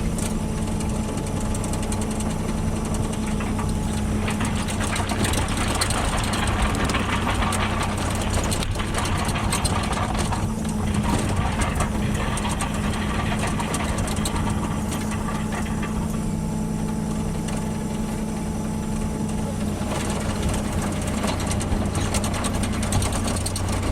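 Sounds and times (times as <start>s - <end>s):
earth-moving machine engine running: 0.0s - 23.9s
rattling and clatter: 0.0s - 23.9s.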